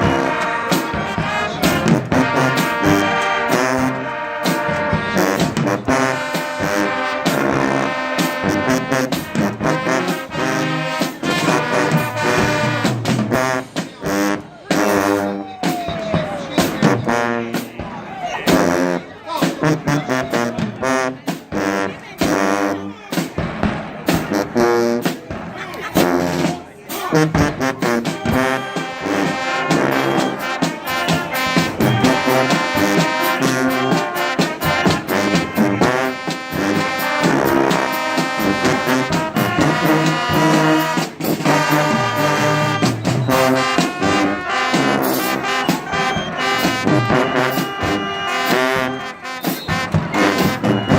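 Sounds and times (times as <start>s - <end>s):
brass band playing: 0.0s - 50.9s
drums keeping steady beat: 0.0s - 50.9s.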